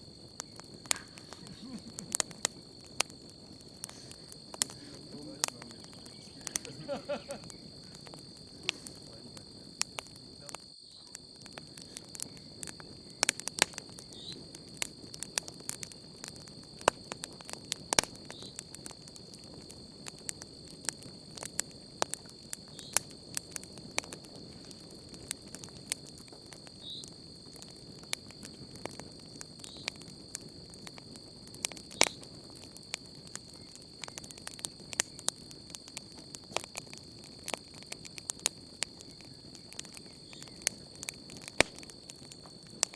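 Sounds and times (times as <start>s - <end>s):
campfire crackling and popping: 0.0s - 42.9s
night insects chirping: 0.0s - 42.9s.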